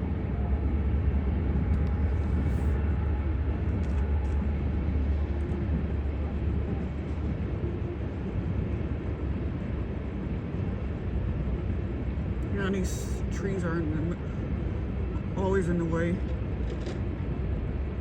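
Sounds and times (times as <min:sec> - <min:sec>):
train rolling past rumbling: 0:00.0 - 0:18.0.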